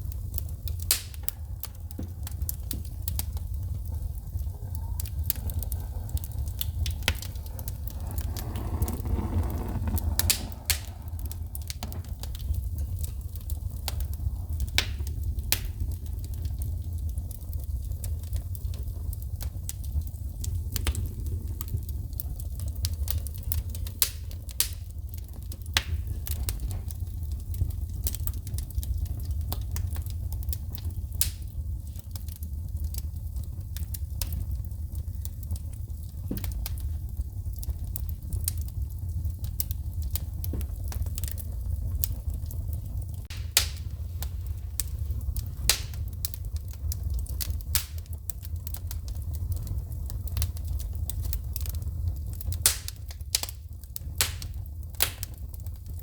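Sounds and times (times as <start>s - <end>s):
fire rumbling: 0.0s - 56.0s
wood popping and crackling: 0.0s - 56.0s.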